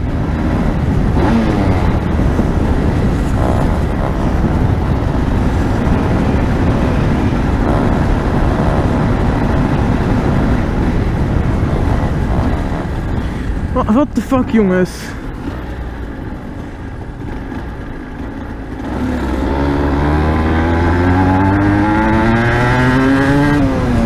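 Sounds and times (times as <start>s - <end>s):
motorcycle engine at speed: 0.0s - 24.0s
wind rush on microphone: 0.0s - 24.0s.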